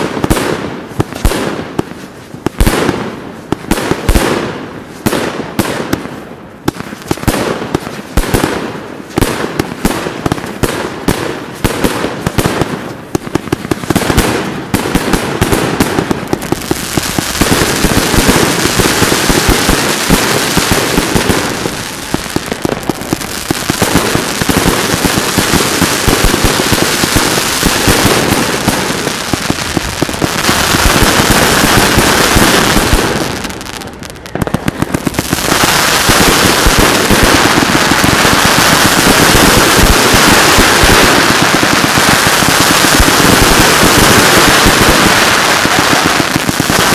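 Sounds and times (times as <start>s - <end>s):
fireworks bangs and crackle: 0.0s - 46.9s.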